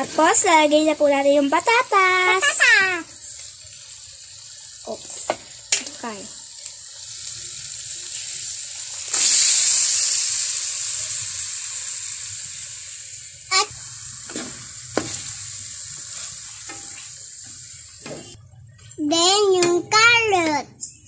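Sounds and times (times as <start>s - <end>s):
food sizzling in a frying pan: 0.0s - 20.6s.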